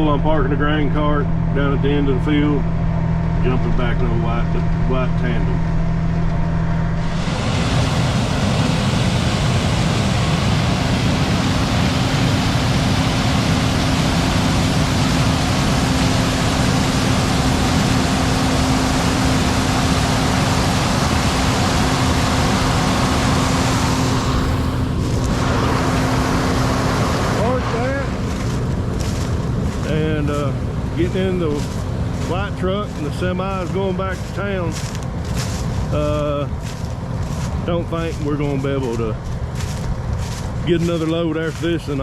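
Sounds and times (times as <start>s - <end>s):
diesel tractor running hard: 0.0s - 42.0s.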